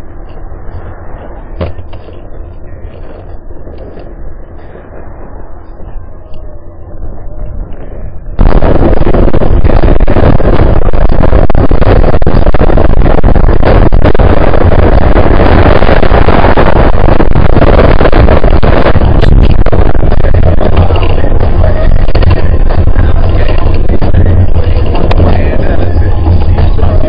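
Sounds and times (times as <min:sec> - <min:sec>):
bicycle road noise: 0:00.0 - 0:27.0
rushing wind on microphone: 0:00.0 - 0:27.0.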